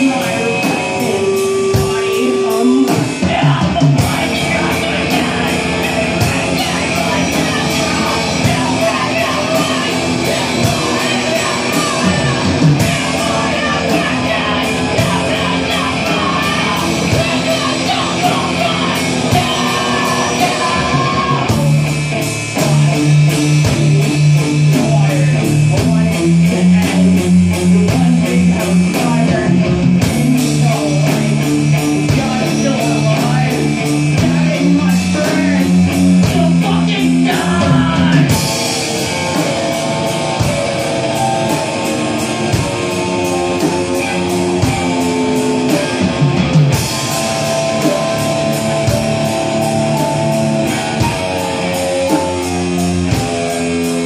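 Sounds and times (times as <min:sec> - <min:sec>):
drum kit and cymbals: 0:00.0 - 0:54.0
electric guitar: 0:00.0 - 0:54.0.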